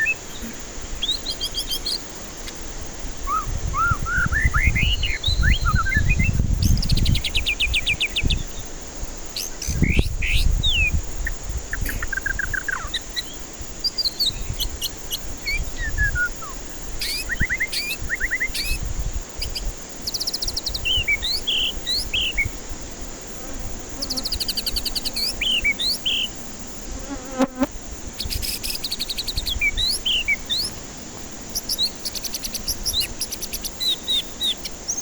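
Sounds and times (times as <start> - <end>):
bird singing whistles and trills: 0.0 - 2.0, 3.2 - 8.6, 9.4 - 18.8, 19.4 - 22.5, 24.1 - 26.3, 28.2 - 30.8, 31.5 - 35.0.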